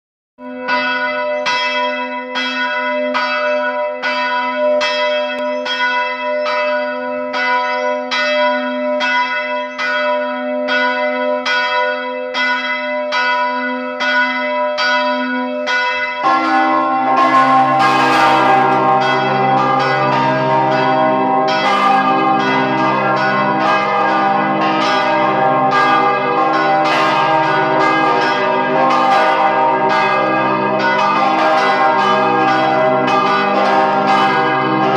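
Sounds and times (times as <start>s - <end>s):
church bell striking: 0.4s - 34.9s
deeper church bell: 0.4s - 34.9s.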